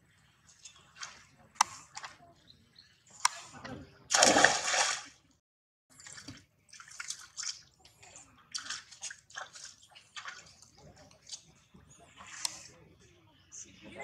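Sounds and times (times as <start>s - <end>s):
water splashing: 0.0s - 2.4s, 3.1s - 5.3s, 5.9s - 12.8s.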